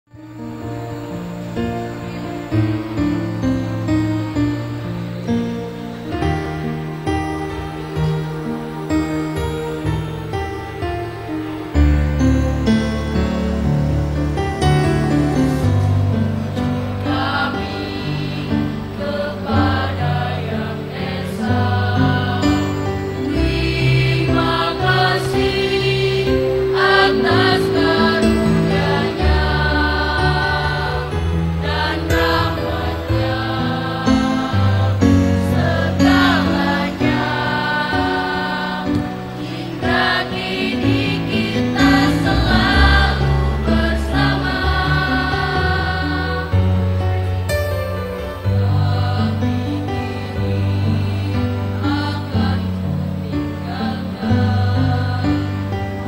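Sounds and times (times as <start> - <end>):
choir singing in harmony: 0.1 - 56.0.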